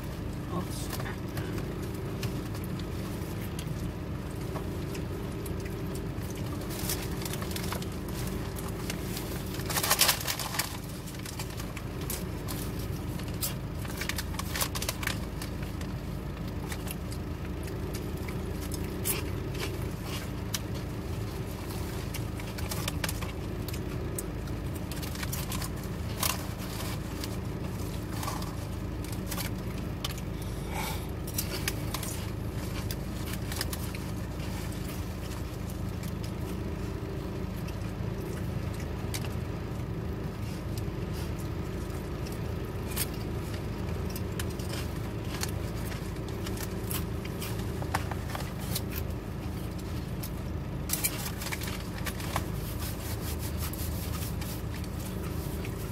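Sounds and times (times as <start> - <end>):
car cabin hum: 0.0 - 55.9
food wrapping crackling: 0.1 - 55.9
person chewing: 1.0 - 55.9.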